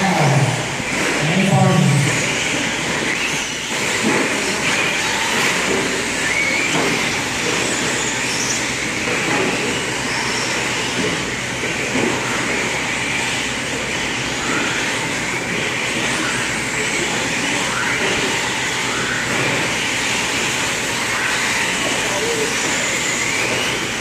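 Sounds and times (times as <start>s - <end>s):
motor and tyre noise: 0.0s - 24.0s
rc truck motor whines: 0.0s - 24.0s.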